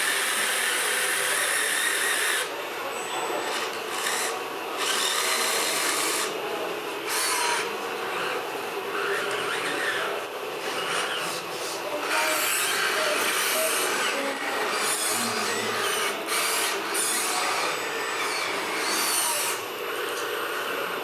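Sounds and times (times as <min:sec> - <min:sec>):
small electric motors whirring: 0:00.0 - 0:02.5, 0:03.3 - 0:06.4, 0:07.0 - 0:20.6
faint motor whines: 0:00.0 - 0:21.0.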